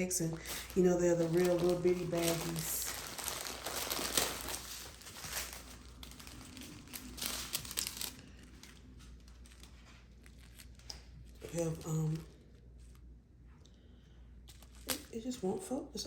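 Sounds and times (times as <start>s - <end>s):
plastic baggies crinkling: 0.0s - 13.1s, 14.4s - 16.0s.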